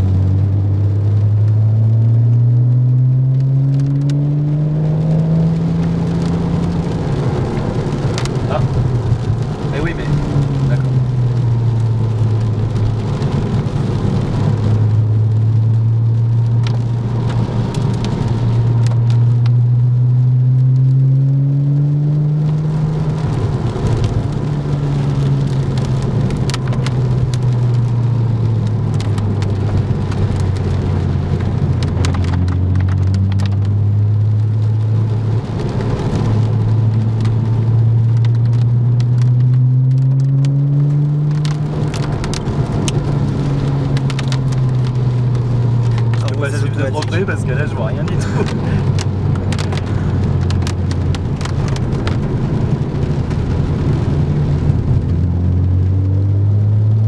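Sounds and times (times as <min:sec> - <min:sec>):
car engine from inside cabin: 0:00.0 - 0:57.0
rain pattering on car: 0:00.0 - 0:57.0.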